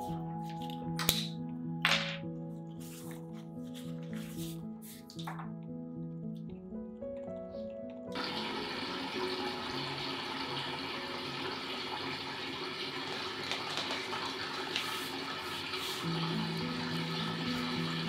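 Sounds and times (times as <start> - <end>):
faint background music: 0.0 - 12.5, 14.8 - 18.0.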